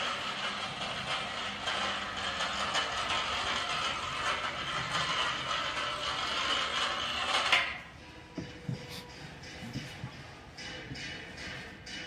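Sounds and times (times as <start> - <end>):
electric hoist running: 0.0 - 12.0
fine mechanical rattle: 0.0 - 12.0.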